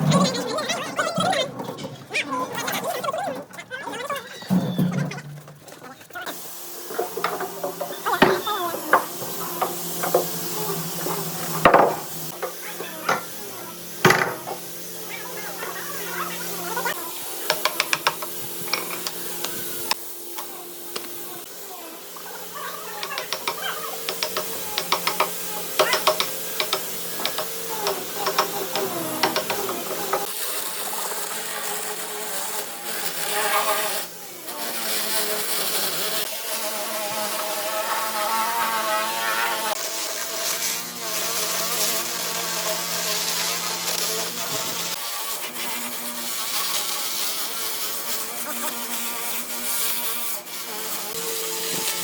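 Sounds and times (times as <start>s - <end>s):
power tool whining on wood: 6.0s - 52.0s.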